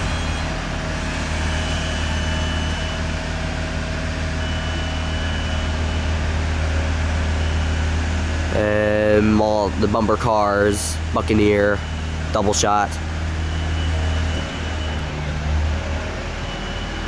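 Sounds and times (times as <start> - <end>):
low engine-like hum: 0.0 - 17.0.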